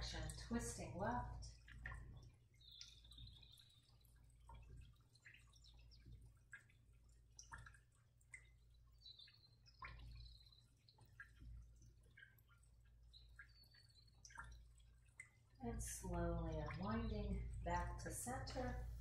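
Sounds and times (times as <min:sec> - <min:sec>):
faint ticks and clicks: 0:00.0 - 0:19.0
steady low hum: 0:00.0 - 0:19.0.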